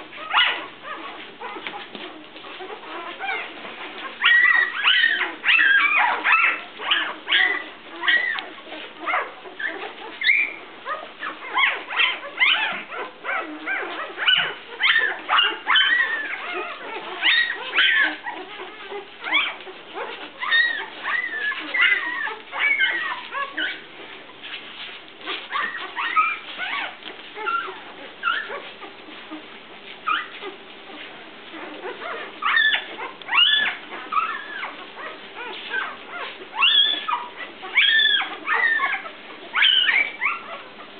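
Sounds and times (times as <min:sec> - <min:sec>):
puppies squeaking and whimpering: 0:00.0 - 0:40.9.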